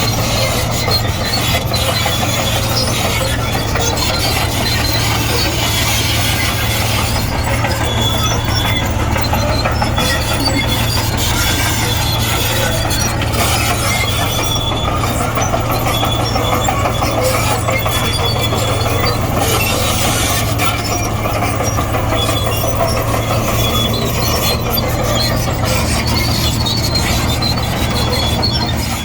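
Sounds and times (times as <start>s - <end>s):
bulldozer diesel engine running: 0.0s - 29.0s
steel tracks squealing: 0.0s - 29.0s.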